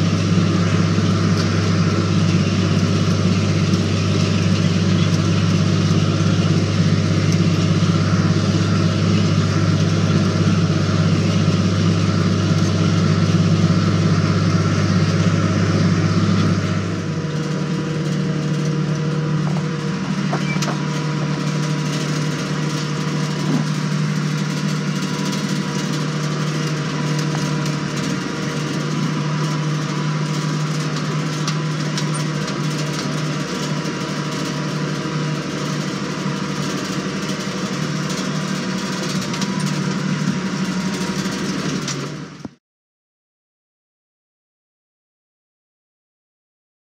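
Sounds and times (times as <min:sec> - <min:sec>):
tractor engine running: 0:00.0 - 0:42.6.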